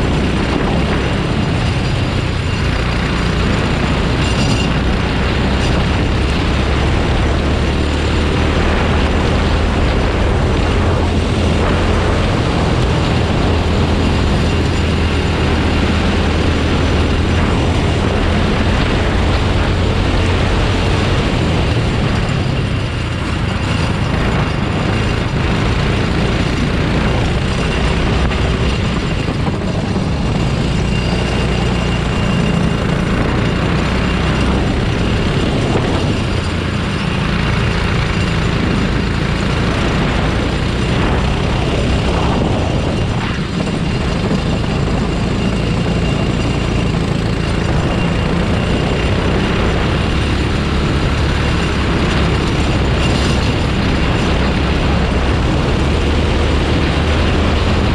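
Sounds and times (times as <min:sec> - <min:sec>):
racing kart engine revving: 0:00.0 - 0:57.9.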